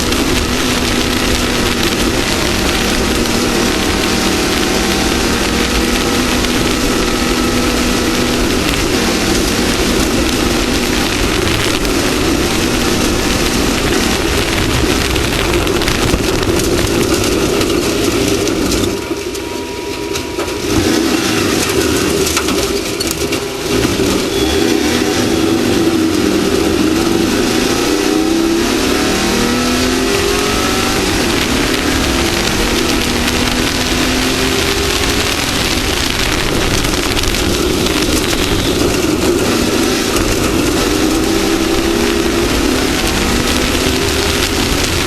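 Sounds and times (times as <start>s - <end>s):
constant rush of noise: 0.0s - 45.0s
engine running at high revs: 0.0s - 45.0s.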